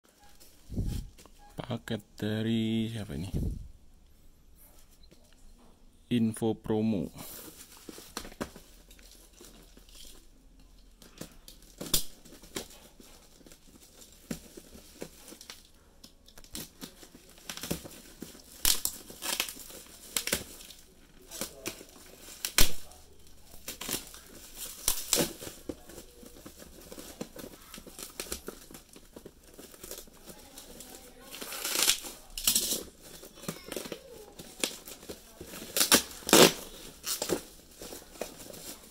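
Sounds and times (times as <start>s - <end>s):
plastic wrapping crinkling and tearing: 7.2s - 38.9s.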